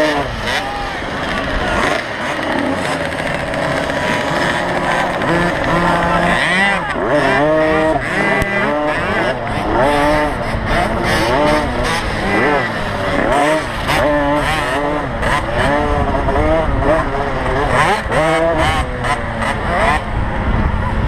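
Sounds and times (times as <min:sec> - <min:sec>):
two-stroke motocross bikes revving: 0:00.0 - 0:21.0.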